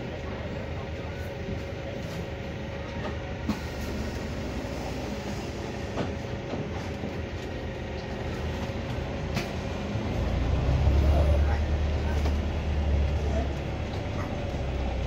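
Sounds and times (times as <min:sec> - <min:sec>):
bus hum with faint whine: 0:00.0 - 0:15.0.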